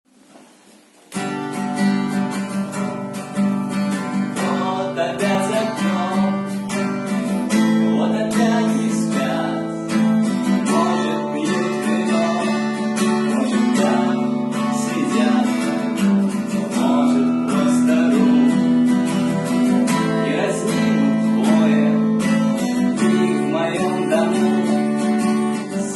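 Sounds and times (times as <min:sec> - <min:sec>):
acoustic guitar strumming chords: 0:00.4 - 0:25.9.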